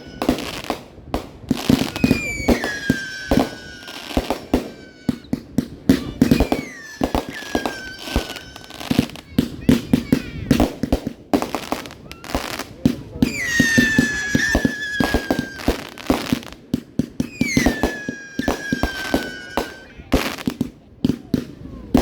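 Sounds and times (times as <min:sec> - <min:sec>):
fireworks bangs and crackles: 0:00.0 - 0:22.0
whistling fireworks: 0:00.0 - 0:22.0.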